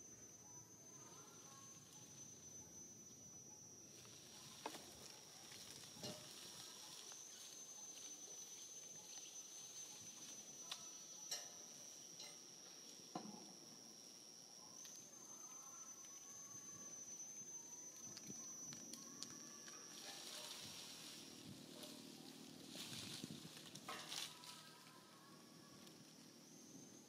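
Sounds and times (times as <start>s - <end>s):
high-pitched drone: 0.0s - 27.0s.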